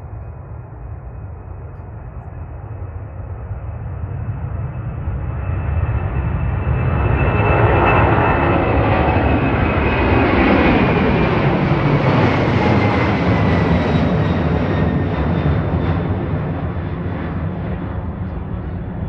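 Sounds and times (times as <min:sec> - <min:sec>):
jet airliner engine noise: 0:00.0 - 0:19.0.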